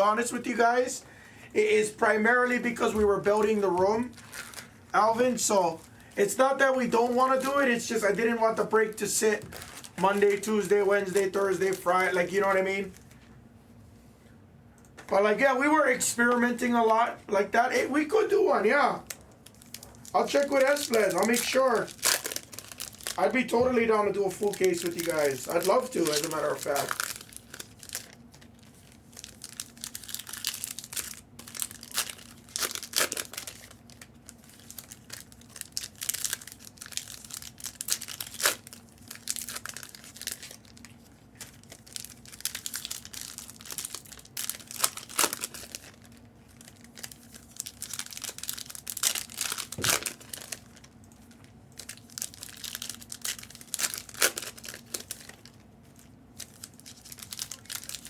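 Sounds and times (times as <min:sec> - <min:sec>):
card pack wrappers tearing and crinkling: 0:02.1 - 0:13.1, 0:17.8 - 0:58.0.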